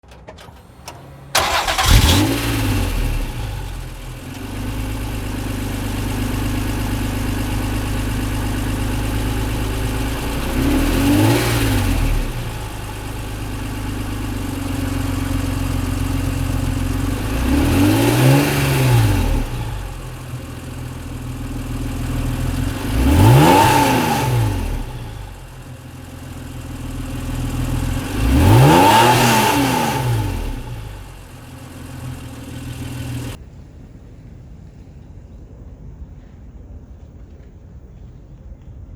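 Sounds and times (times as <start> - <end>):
car engine idling and revving: 0.0 - 33.4.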